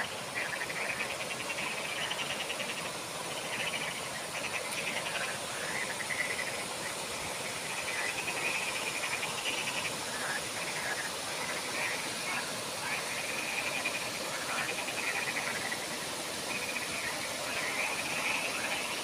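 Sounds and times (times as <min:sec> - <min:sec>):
frogs calling in chorus: 0:00.0 - 0:19.0
small cascades rushing: 0:00.0 - 0:19.0.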